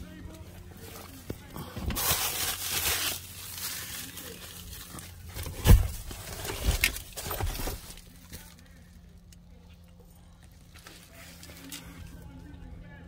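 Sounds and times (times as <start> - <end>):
rustling and crinkling handling: 0.0 - 12.6.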